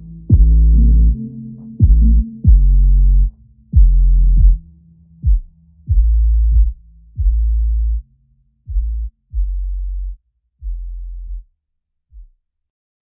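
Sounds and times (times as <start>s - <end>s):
deep sub-bass electronic music: 0.0s - 11.5s.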